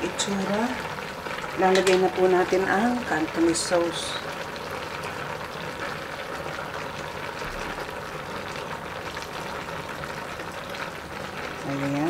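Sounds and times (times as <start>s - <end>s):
pot simmering with bubbling: 0.0s - 12.0s.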